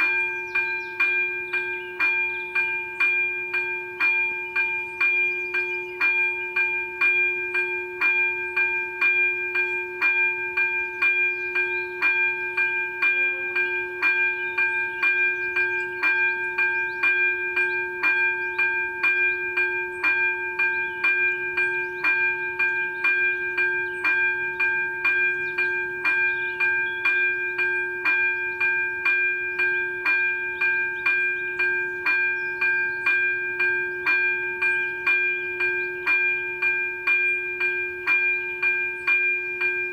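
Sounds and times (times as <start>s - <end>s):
level crossing bell ringing: 0.0s - 39.9s.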